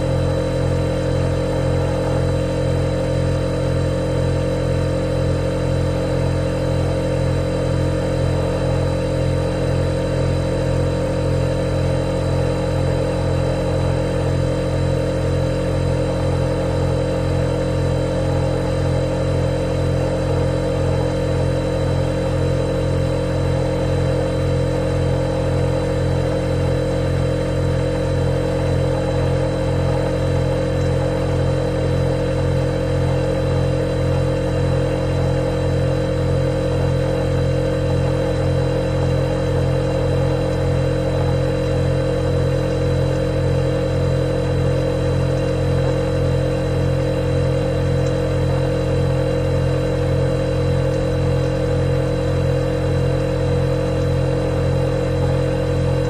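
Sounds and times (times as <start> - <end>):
refrigerator humming: 0.0 - 56.0.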